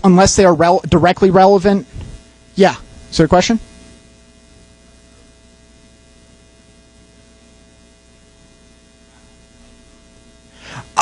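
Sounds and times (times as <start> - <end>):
electrical hum: 0.0 - 11.0
sound system hiss: 0.0 - 11.0.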